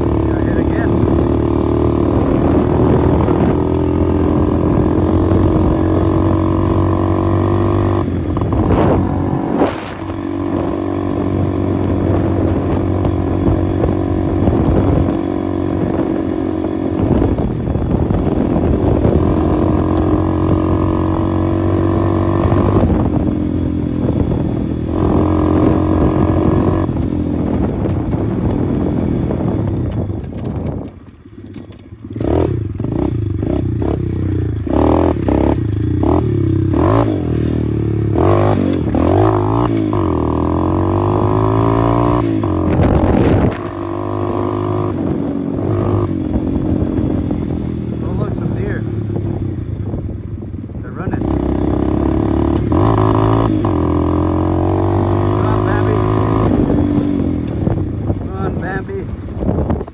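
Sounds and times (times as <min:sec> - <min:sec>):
motorbike engine running: 0:00.0 - 0:59.9.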